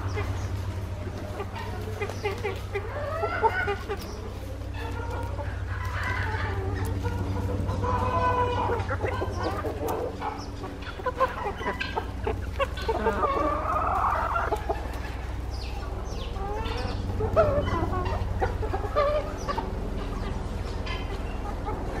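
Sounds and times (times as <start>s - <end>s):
chickens clucking: 0.0s - 22.0s
steady low hum: 0.0s - 22.0s.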